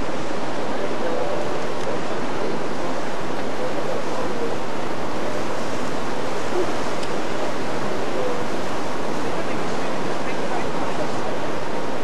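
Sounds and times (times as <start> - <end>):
sea wash: 0.0 - 12.0
wind: 0.0 - 12.0.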